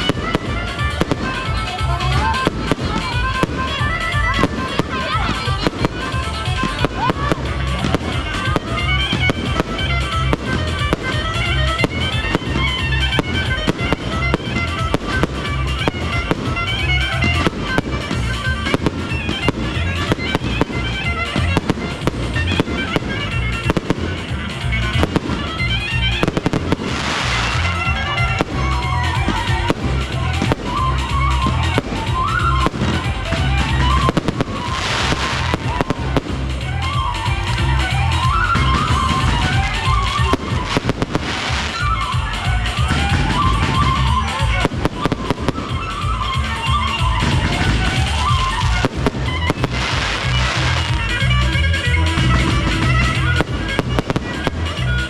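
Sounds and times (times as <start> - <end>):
fireworks bangs and crackles: 0.0 - 55.0
music with pulsing bass beat: 0.0 - 55.0.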